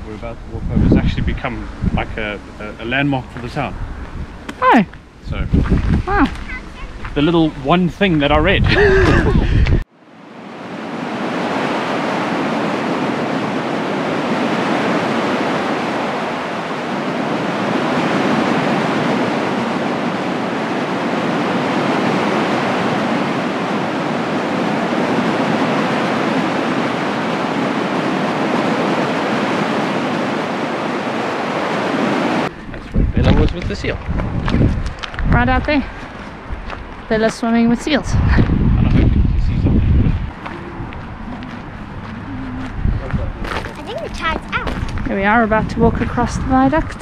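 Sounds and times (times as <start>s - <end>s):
sea surf rushing: 0.0s - 47.0s.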